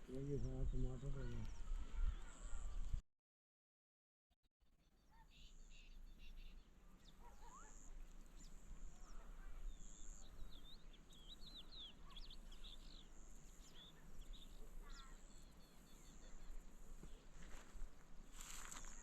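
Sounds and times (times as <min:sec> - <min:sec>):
small birds chirping: 0:00.0 - 0:03.0, 0:04.7 - 0:19.0.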